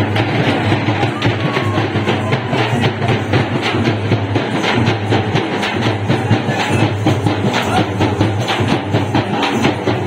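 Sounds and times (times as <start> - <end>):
fast steady drumming: 0.0 - 10.0.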